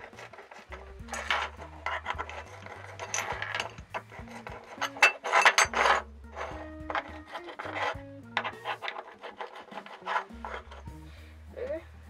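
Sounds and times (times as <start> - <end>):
countersink bit scraping metal: 0.0 - 11.0.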